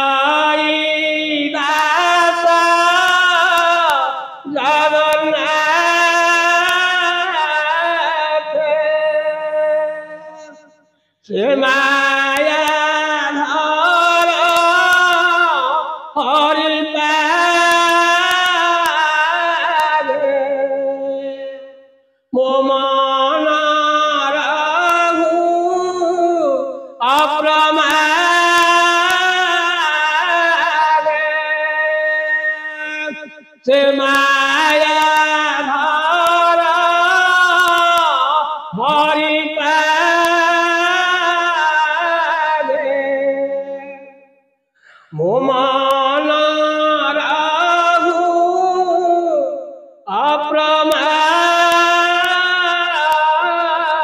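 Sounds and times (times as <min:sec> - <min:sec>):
man chanting: 0:00.0 - 0:44.3, 0:44.9 - 0:54.0.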